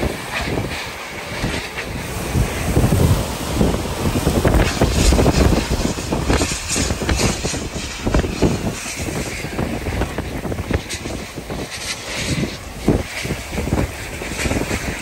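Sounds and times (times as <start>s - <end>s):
strong wind gusting on microphone: 0.0s - 15.0s
wind-driven rain: 0.0s - 15.0s.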